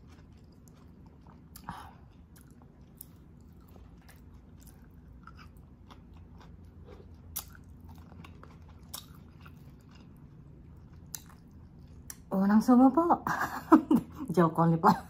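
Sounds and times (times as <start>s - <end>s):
person chewing food: 0.0s - 12.3s.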